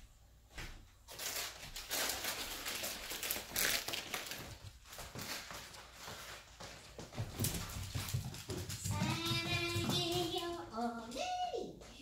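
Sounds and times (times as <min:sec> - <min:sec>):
rustling and crinkling: 0:00.5 - 0:11.2.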